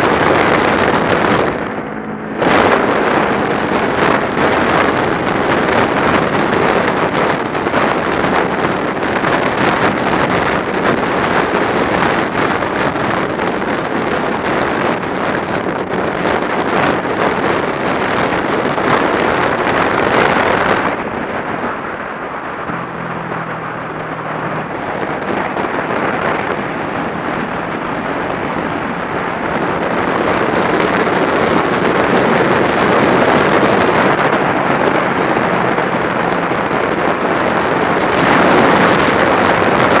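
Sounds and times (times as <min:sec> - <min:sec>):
motorcycle engine hum: 0:00.0 - 0:40.0
wind rushing over microphone: 0:00.0 - 0:40.0.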